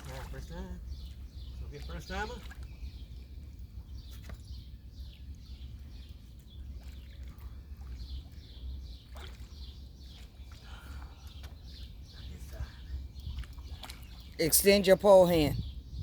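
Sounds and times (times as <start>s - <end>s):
birds chirping: 0.3s - 16.0s.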